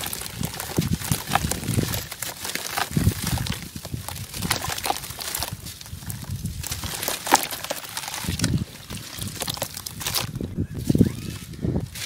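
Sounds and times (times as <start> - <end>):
water sloshing and splashing: 0.0 - 10.5
gritty crunching of cement chunks: 0.0 - 12.0.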